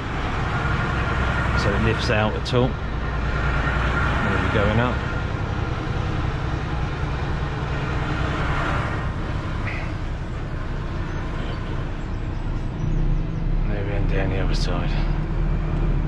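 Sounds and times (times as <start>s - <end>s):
diesel truck engine drone: 0.0s - 16.0s
road noise: 0.0s - 16.0s.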